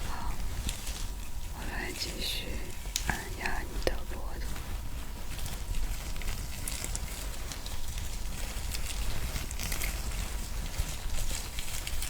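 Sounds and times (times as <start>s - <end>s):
hands rubbing on microphone: 0.0s - 12.0s.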